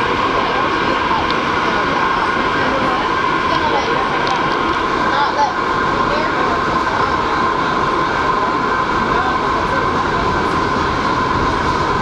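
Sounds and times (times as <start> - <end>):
steady whine: 0.0 - 12.0
subway car rumble and rail noise: 0.0 - 12.0.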